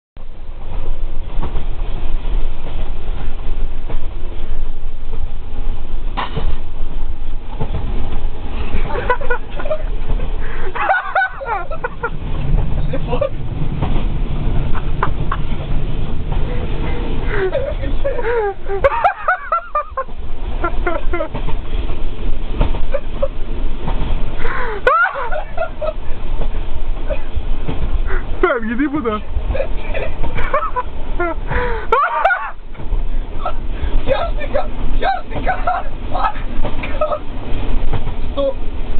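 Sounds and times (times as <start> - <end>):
moving train rumbling: 0.2 - 38.9.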